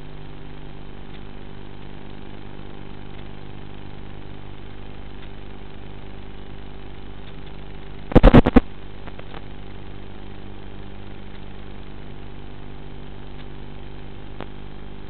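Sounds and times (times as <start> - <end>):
steady buzzing hum: 0.0 - 15.0.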